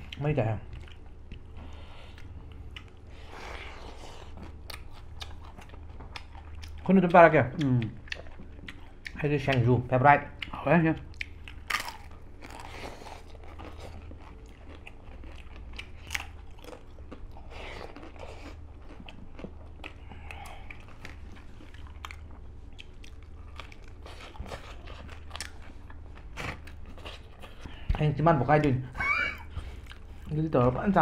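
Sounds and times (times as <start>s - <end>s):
crisp food bitten and chewed: 0.0s - 9.7s, 10.4s - 27.7s.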